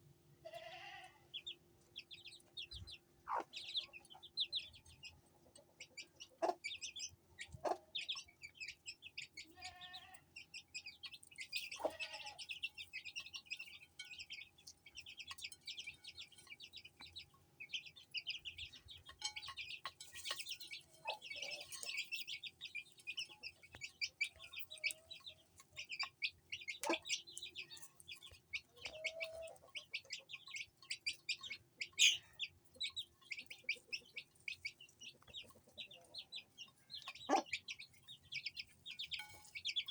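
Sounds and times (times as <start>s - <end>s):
hen clucking: 0.4s - 39.9s
chicks peeping: 0.5s - 39.9s.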